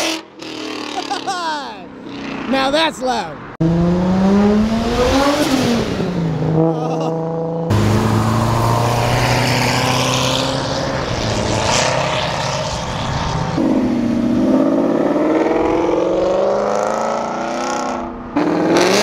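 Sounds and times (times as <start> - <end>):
sports car engine revving: 3.6 - 19.0
sports car passing: 3.6 - 19.0.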